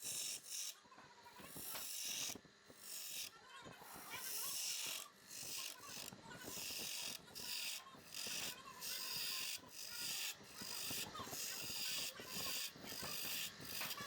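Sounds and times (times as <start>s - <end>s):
lathe tool shaving wood: 1.6s - 14.0s.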